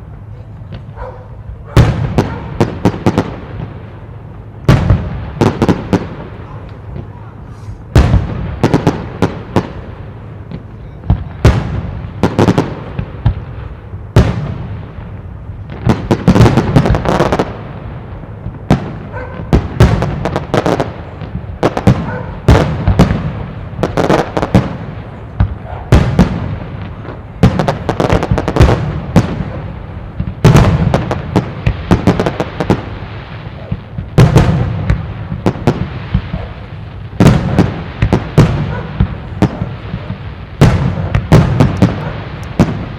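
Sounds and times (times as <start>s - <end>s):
firework crackle: 0.0s - 42.9s.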